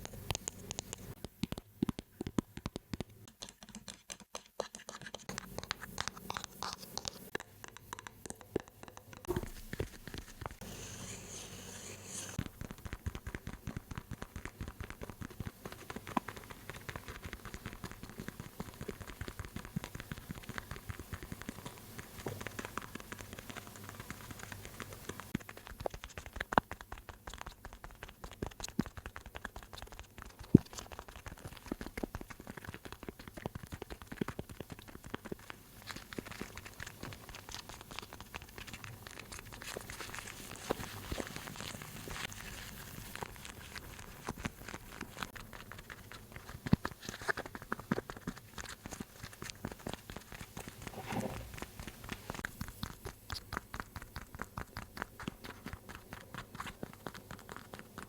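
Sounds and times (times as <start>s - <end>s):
tapping and scratching on objects: 0.0s - 58.0s.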